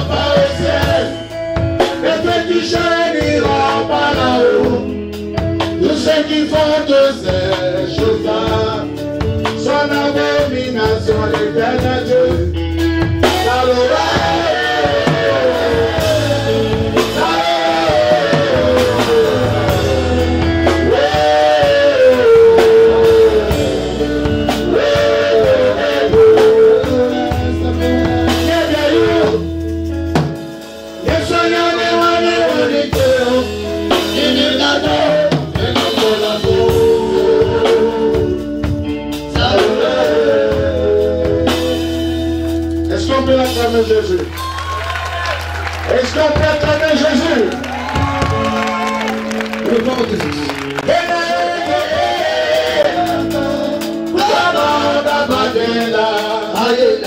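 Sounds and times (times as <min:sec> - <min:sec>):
man singing gospel: 0:00.0 - 0:30.0, 0:30.6 - 0:44.3, 0:45.8 - 0:57.0
instrumental accompaniment with bass: 0:00.0 - 0:57.0.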